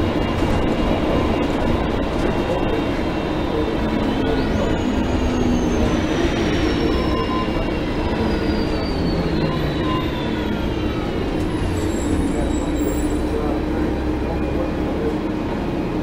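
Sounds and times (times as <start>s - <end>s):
bus engine rumbling: 0.0s - 16.0s
lower whining tones: 0.0s - 16.0s.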